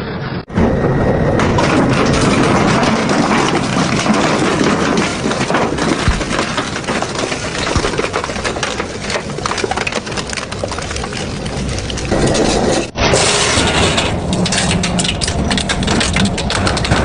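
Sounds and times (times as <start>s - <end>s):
shredder grinding metal scrap: 1.4s - 17.0s.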